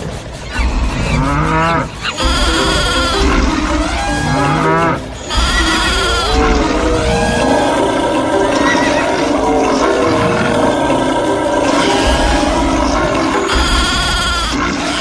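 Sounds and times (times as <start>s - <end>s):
cattle mooing: 1.2s - 15.0s.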